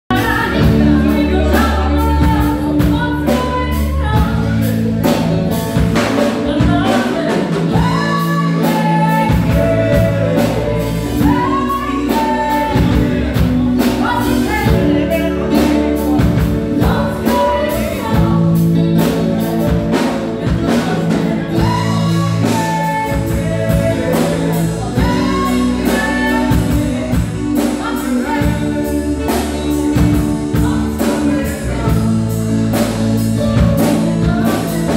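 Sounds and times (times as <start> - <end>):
drum kit: 0.1 - 34.9
electric guitars: 0.1 - 34.9
keyboards: 0.1 - 34.9
lead vocalist singing: 0.1 - 34.9.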